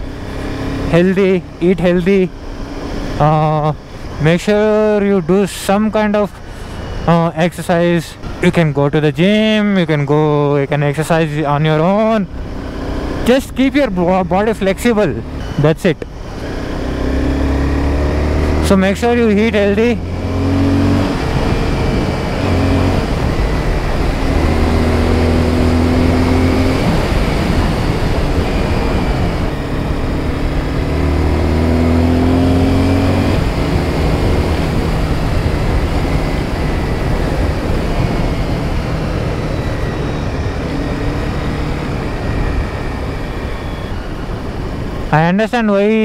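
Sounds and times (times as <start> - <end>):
motorcycle engine running: 9.2 - 46.0.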